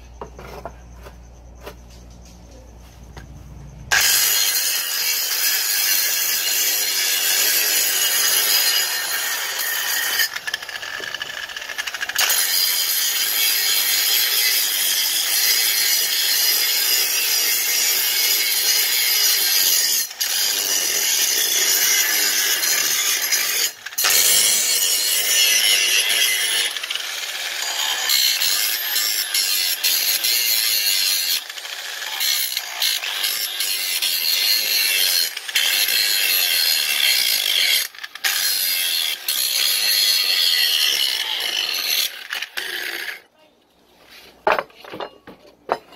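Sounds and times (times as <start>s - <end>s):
angle grinder grinding steel: 3.9s - 43.3s.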